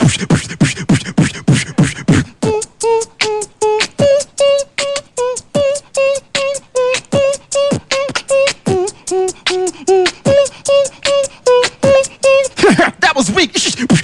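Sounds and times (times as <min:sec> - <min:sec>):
hummed tune: 0:00.0 - 0:13.0
beatbox kick-drum sounds: 0:00.0 - 0:14.0.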